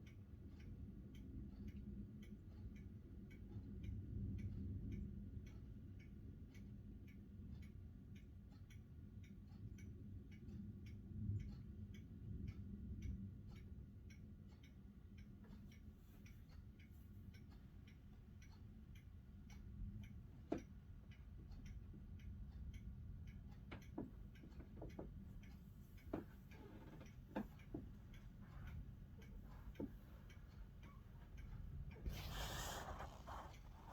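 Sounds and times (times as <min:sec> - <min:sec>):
faint ticking clicks: 0:00.0 - 0:33.9.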